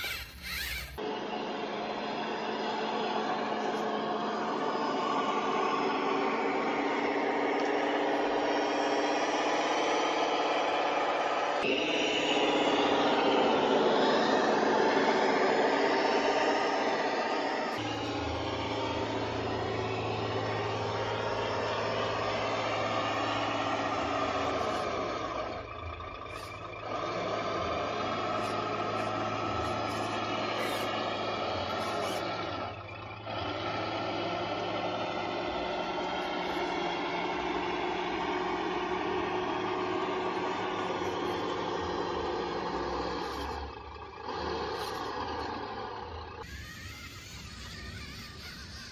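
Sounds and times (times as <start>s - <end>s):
model vehicle mechanical whine: 0.0s - 48.9s.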